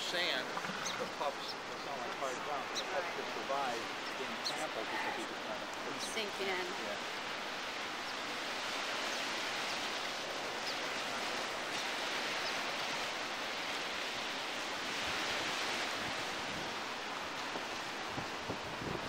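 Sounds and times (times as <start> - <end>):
ocean surf hissing: 0.0 - 19.0.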